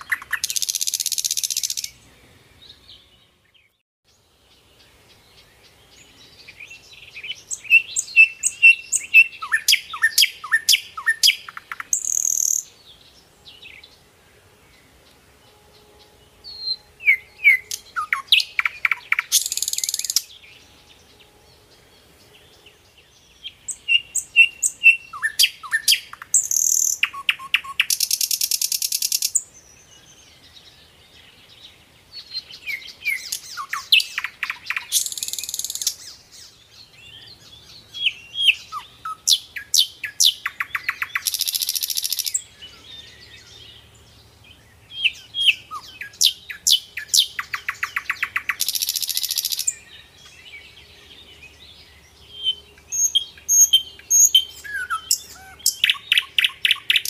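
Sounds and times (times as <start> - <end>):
songbird singing with trills: 0.0 - 57.0.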